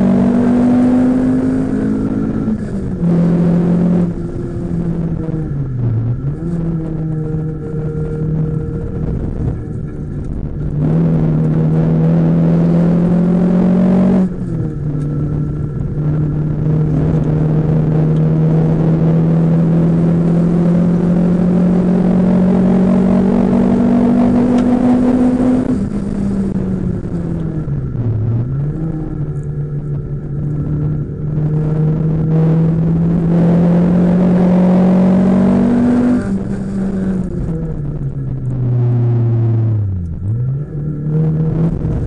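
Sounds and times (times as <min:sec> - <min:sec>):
car engine accelerating: 0:00.0 - 0:42.0
road noise: 0:00.0 - 0:42.0.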